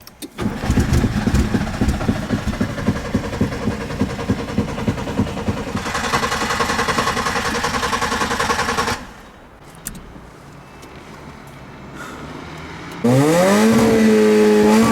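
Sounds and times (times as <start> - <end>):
car engine cranking: 0.0 - 10.1, 13.0 - 14.9.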